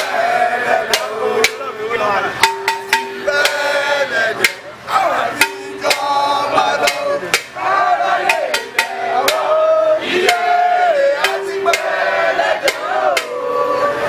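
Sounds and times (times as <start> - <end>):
voices chanting a festival song: 0.0 - 14.0
sharp percussive strikes: 0.8 - 1.7, 2.4 - 4.8, 5.4 - 13.6.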